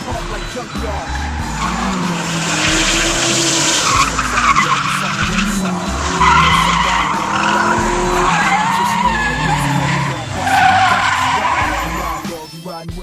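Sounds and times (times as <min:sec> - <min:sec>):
car engine revving: 0:00.0 - 0:12.5
tyres squealing: 0:00.0 - 0:12.8.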